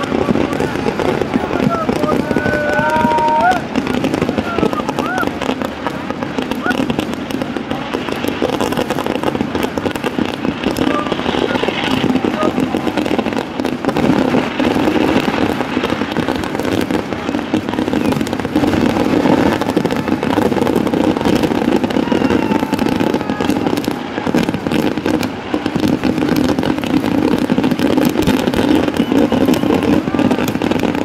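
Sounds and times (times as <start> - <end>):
firecrackers crackling and banging: 0.0 - 31.0.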